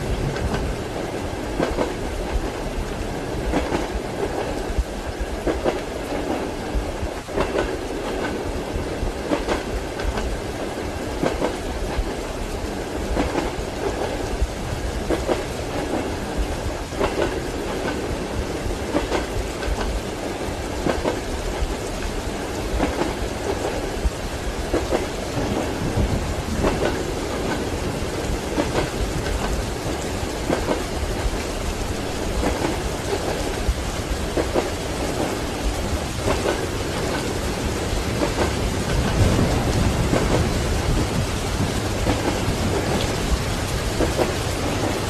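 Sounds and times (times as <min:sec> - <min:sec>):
train carriage rumble: 0:00.0 - 0:45.0
train wheels clacking over rail joints: 0:00.0 - 0:45.0.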